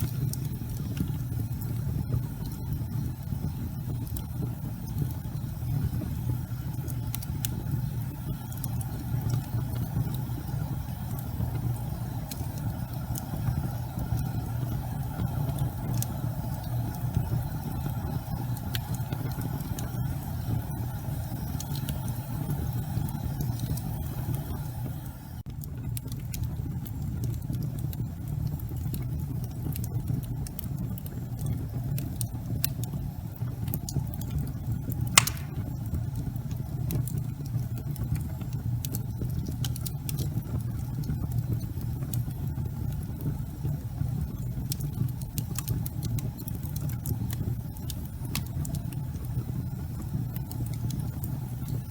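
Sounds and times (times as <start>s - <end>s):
fire crackling and popping: 0.0s - 51.9s
fire rumbling in fireplace: 0.0s - 51.9s.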